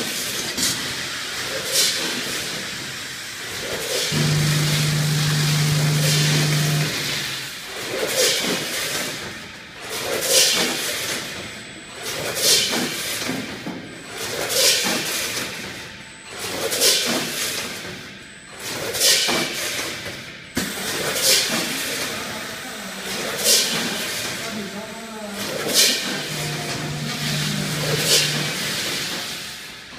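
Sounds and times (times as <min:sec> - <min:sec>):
packing machine hiss and rattle: 0:00.0 - 0:24.6, 0:25.4 - 0:29.9.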